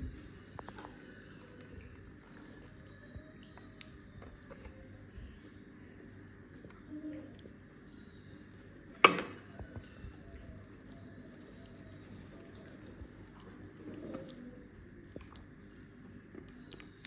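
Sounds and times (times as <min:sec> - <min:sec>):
eating sounds at a table: 0:00.0 - 0:17.0.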